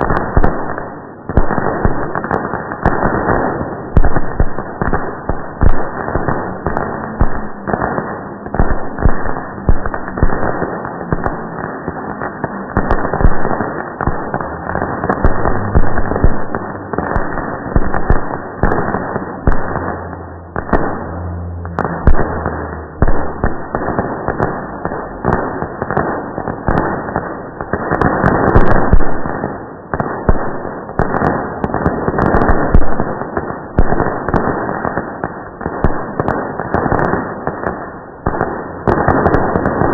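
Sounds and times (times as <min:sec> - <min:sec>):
slowed fireworks bangs: 0:00.0 - 0:39.9.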